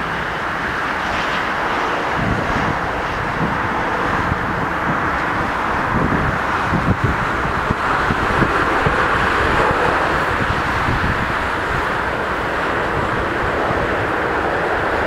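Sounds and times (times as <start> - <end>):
jet engines rushing: 0.0 - 15.0
wind buffeting microphone: 0.0 - 15.0.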